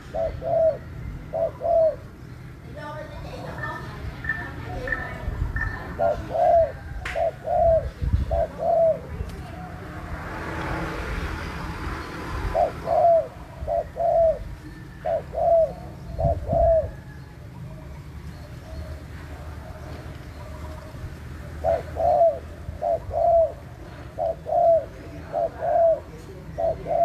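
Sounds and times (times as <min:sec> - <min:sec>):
dove cooing: 0:00.0 - 0:02.2, 0:03.4 - 0:09.8, 0:12.4 - 0:27.0.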